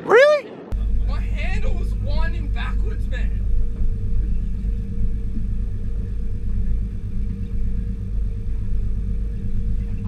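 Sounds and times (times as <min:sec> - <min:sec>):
boat engine running: 0:00.6 - 0:10.0.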